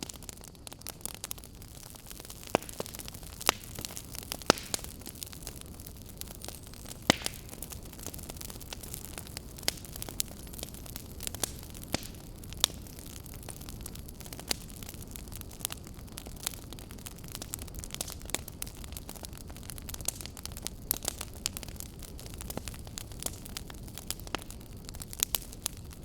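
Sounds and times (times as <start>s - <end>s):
fireplace fire crackling: 0.0s - 26.0s
sharp pops of fire: 0.0s - 26.0s.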